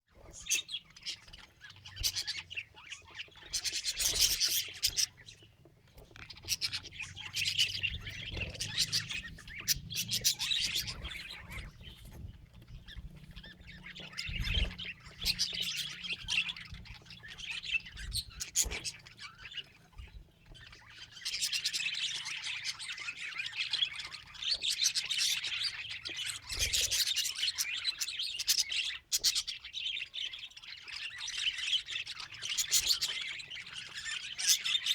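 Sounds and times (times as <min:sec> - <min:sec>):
budgerigar chirping and squawking: 0:00.2 - 0:34.9.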